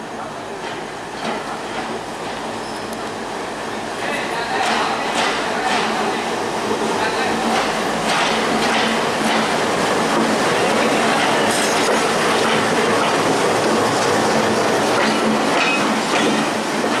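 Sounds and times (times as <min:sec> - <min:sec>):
locomotive engine and wheels rumbling: 0:00.0 - 0:17.0.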